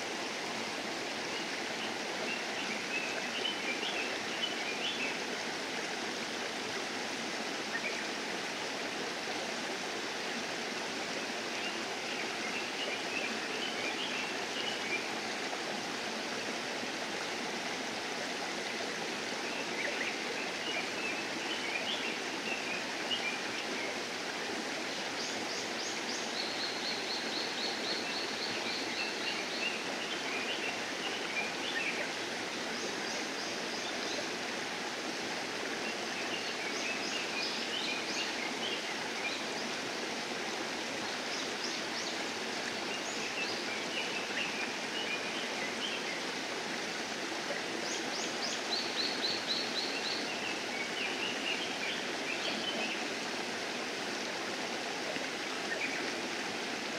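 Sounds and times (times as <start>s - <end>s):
steady rushing water-like noise: 0.0s - 56.9s.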